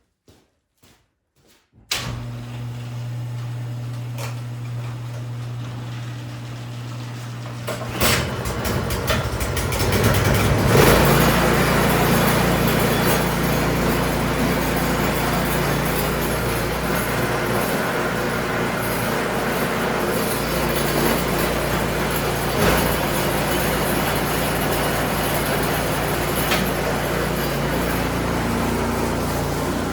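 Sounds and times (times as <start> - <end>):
snowblower engine running: 2.2 - 29.9.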